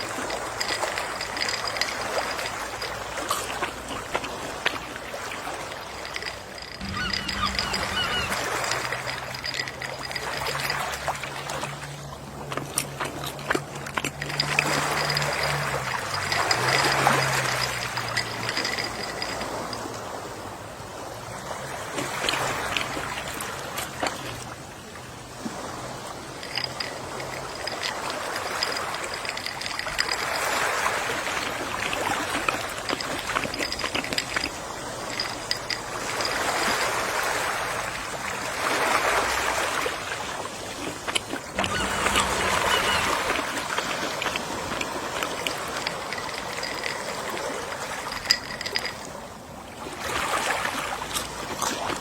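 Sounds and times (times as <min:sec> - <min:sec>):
sea waves washing onto shore: 0:00.0 - 0:52.0.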